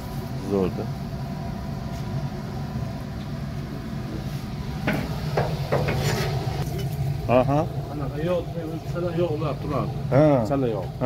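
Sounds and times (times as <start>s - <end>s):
gas burner rumbling: 0.0s - 11.0s.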